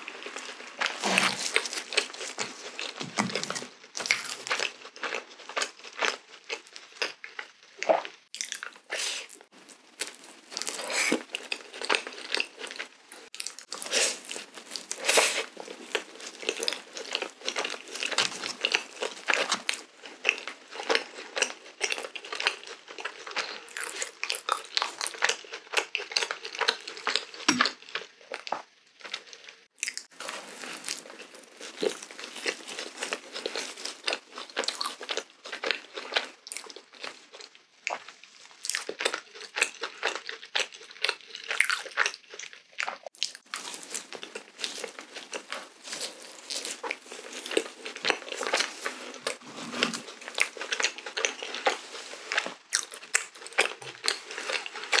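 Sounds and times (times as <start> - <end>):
chewing and biting a doughnut: 0.0 - 55.0.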